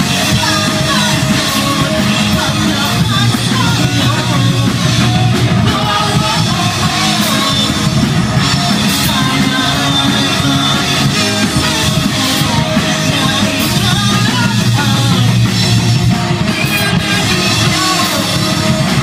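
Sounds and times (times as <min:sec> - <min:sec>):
bass guitar: 0:00.0 - 0:19.0
distorted electric guitars: 0:00.0 - 0:19.0
drum kit: 0:00.0 - 0:19.0
person singing into microphone: 0:00.0 - 0:19.0.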